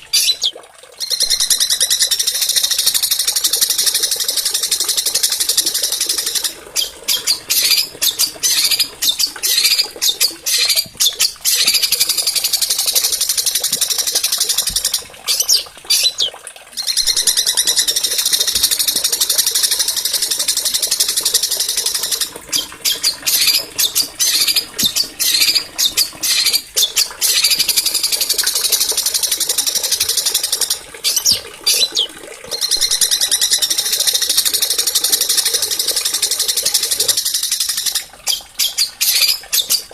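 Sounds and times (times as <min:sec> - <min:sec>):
songbirds singing trills: 0:00.0 - 0:33.8, 0:36.3 - 0:39.9.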